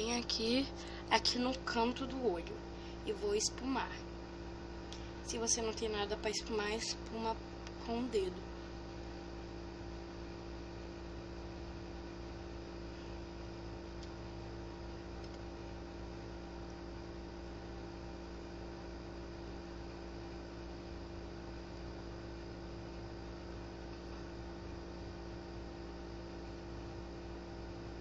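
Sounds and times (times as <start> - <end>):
electrical hum with hiss: 0.0 - 28.0.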